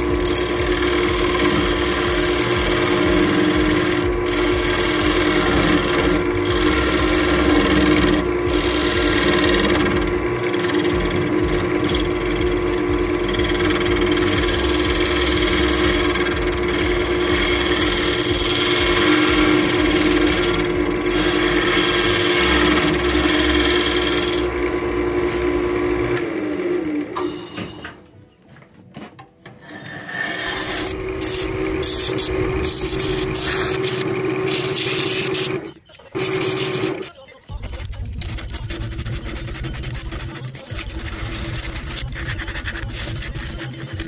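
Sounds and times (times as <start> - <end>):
turning tool scraping wood: 0.0 - 25.6, 29.6 - 44.0
wood lathe humming: 0.0 - 27.2, 29.6 - 37.1, 37.9 - 44.0.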